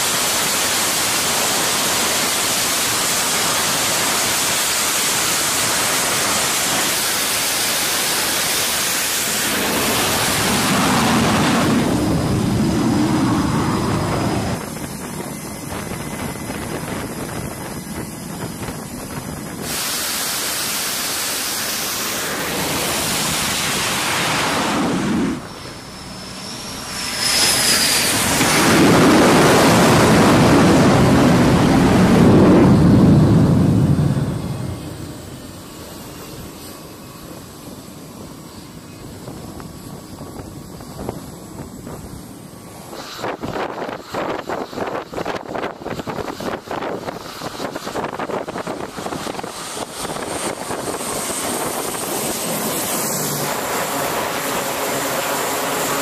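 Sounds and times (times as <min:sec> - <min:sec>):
high turbine whine: 0:00.0 - 0:56.0
jet engines running: 0:00.0 - 0:56.0
wind roaring across microphone: 0:00.0 - 0:56.0.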